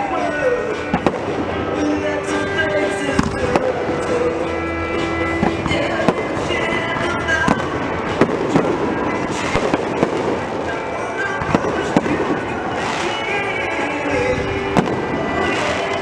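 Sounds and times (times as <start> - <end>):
fireworks banging and crackling: 0.0 - 16.0
music playing: 0.0 - 16.0.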